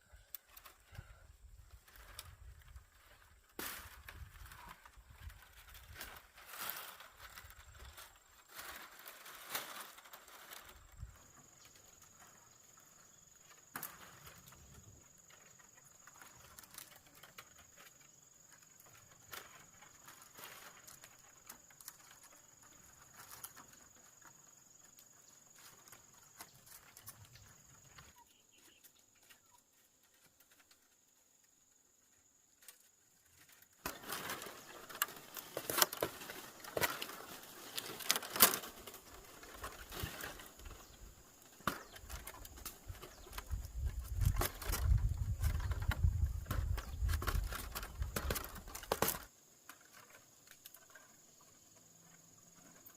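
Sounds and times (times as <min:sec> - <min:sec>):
bamboo strips clicking and rustling: 0:00.2 - 0:31.7, 0:32.4 - 0:52.9
crackling: 0:01.8 - 0:31.5, 0:32.5 - 0:51.2.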